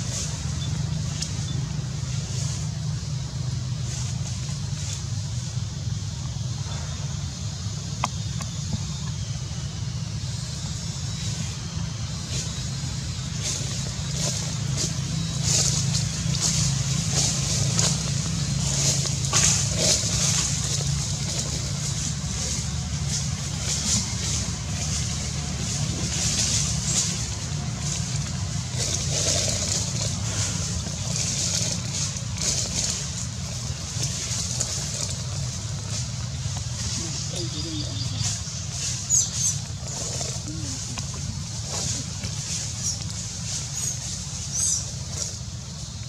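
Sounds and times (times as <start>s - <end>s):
steady low rumble: 0.0s - 46.0s.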